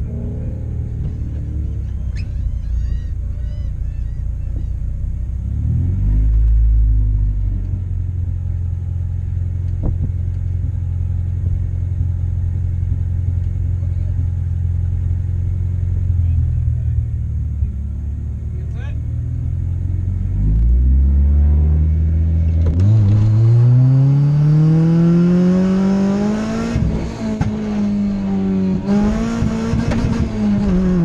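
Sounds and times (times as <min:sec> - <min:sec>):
car engine rumbling and revving: 0:00.0 - 0:31.0.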